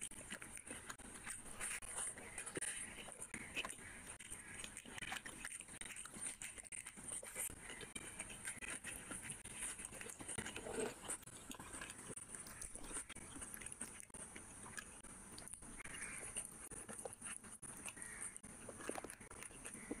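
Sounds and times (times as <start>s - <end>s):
fingers squishing through rice: 0.0s - 20.0s
person chewing: 0.0s - 20.0s
small wet clicks: 0.0s - 20.0s.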